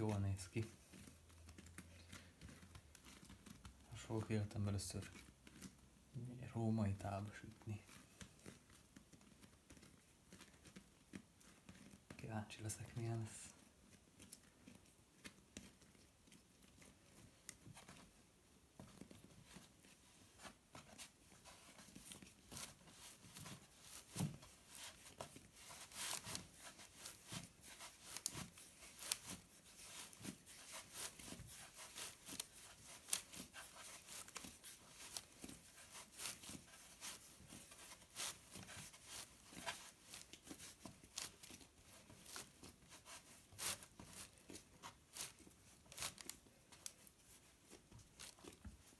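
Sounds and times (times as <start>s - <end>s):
hands working bread dough: 0.0s - 48.9s.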